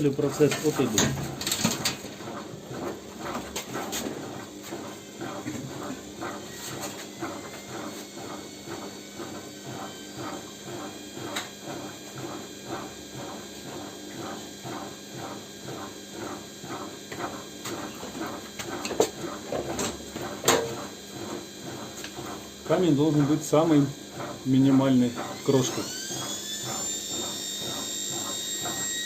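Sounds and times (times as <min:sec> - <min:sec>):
motor spinning with scraping whir: 0:00.0 - 0:29.0.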